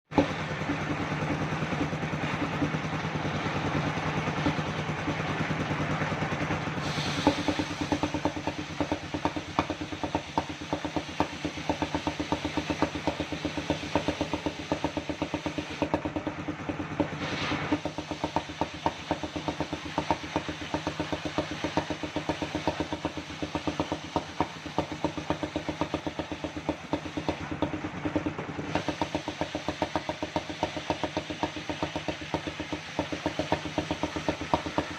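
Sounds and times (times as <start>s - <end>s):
rapid knocking from saw drive: 0.0s - 34.9s
circular saw cutting log: 6.8s - 34.9s.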